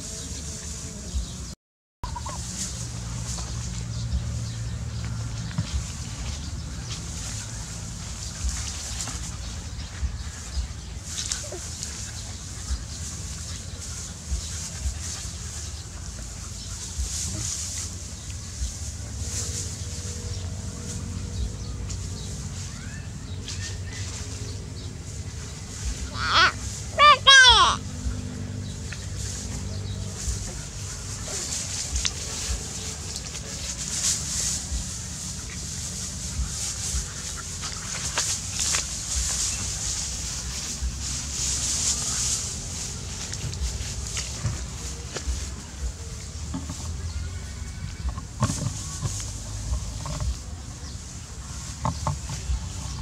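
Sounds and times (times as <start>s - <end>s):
straw rustling and crackling: 0.0s - 53.0s.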